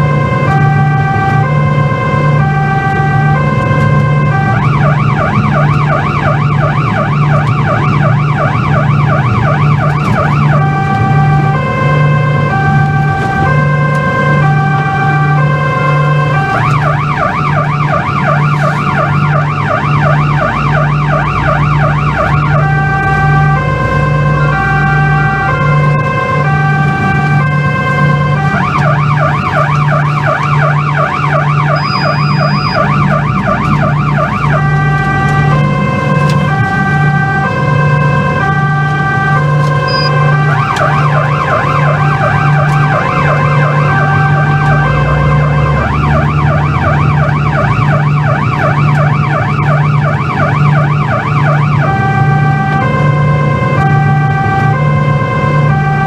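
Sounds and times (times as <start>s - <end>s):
police siren: 0.0s - 56.0s.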